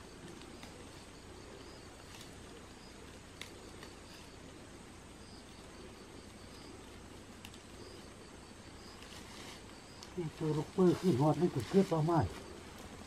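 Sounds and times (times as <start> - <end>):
rustling of ferns and brush: 0.0 - 13.0.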